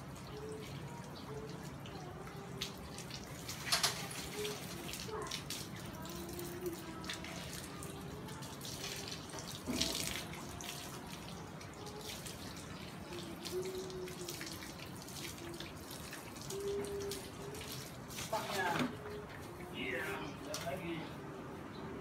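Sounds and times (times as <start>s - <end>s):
hose water spraying: 0.0s - 20.9s.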